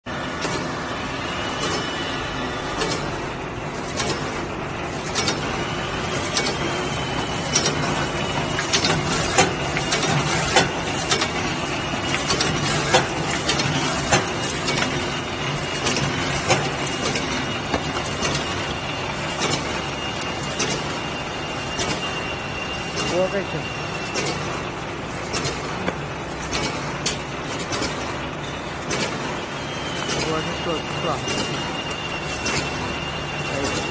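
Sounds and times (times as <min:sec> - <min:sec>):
packing machine humming: 0:00.1 - 0:33.9
machine parts clacking: 0:00.4 - 0:33.9.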